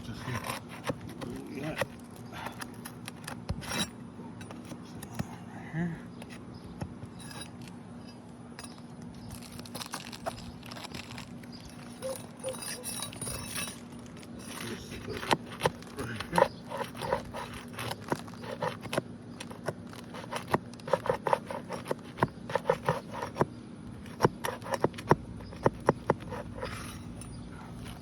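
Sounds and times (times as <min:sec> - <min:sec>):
pry bar scraping shingles: 0:00.0 - 0:05.4, 0:08.6 - 0:28.0.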